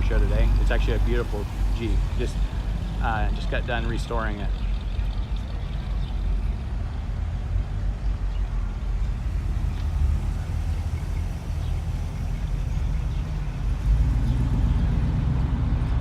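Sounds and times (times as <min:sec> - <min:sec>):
car engines cruising along street: 0:00.0 - 0:16.0.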